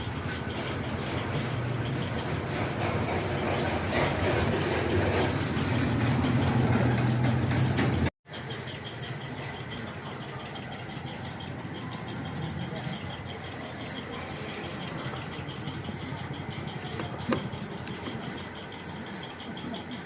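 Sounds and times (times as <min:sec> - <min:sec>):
train running on tv speakers: 0:00.0 - 0:20.0.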